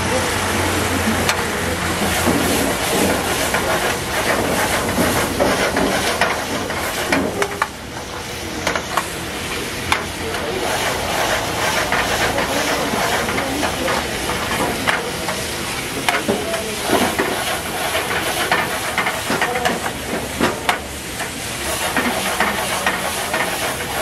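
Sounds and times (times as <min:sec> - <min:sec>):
food sizzling in a pan: 0:00.1 - 0:24.0.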